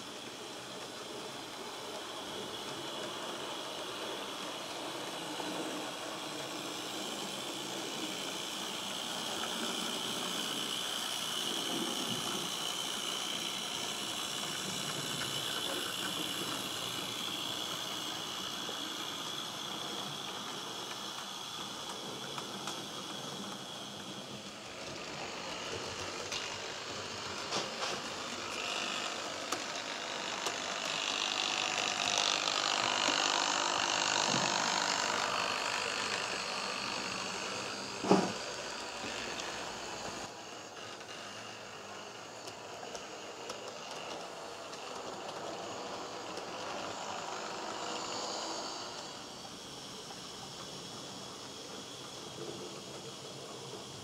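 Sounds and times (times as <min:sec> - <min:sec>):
model train hiss and whine: 0:00.0 - 0:54.0.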